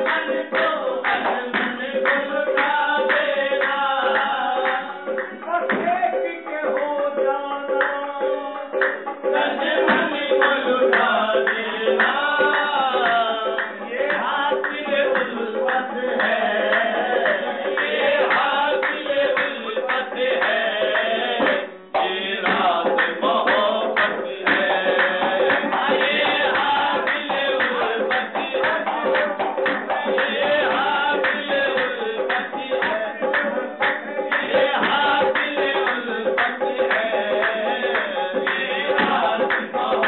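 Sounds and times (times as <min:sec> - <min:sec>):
hand clapping: 0:00.0 - 0:08.0, 0:08.8 - 0:40.0
voices singing: 0:00.0 - 0:40.0.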